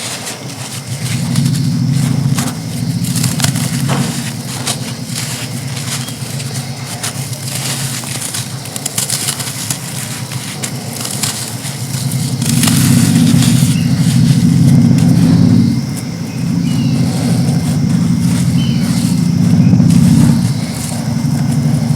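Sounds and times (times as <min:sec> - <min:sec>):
sand crumbling and crunching: 0:00.0 - 0:21.9
steady low hum: 0:00.3 - 0:21.9.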